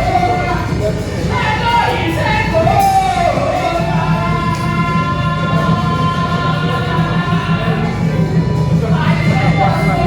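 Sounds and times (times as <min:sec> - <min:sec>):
church worship singing: 0:00.0 - 0:10.0.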